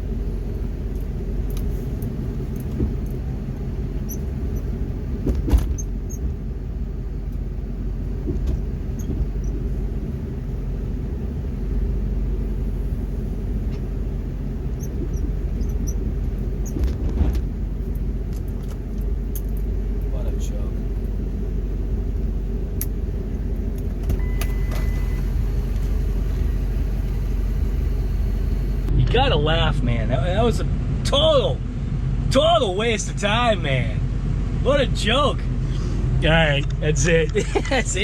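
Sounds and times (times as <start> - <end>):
truck engine rumbling: 0.0 - 38.0.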